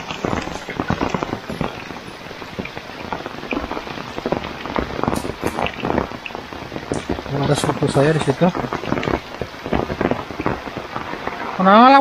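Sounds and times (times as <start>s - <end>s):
heavy rain falling: 0.0s - 12.0s
rain on corrugated roof: 0.0s - 12.0s.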